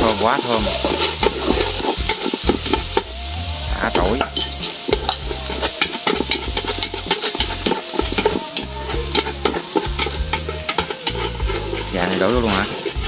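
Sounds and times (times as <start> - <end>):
food sizzling in a pot: 0.0 - 13.0
utensils scraping and tapping pot: 0.0 - 13.0.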